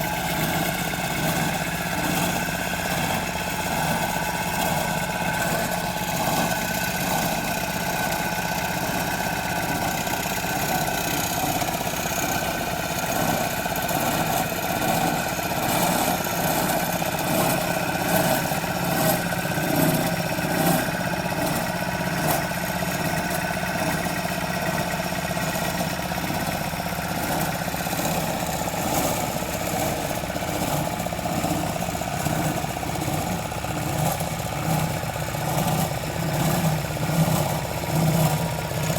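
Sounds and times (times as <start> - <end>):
machine engine running: 0.0 - 38.9.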